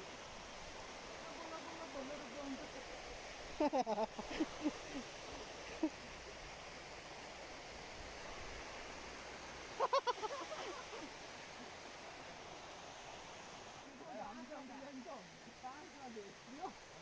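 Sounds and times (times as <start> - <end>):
stream water rushing over rocks: 0.0 - 17.0.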